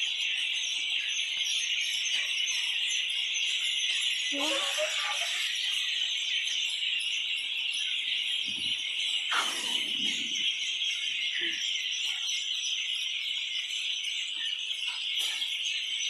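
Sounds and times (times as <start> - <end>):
many small birds chirping: 0.0 - 16.0.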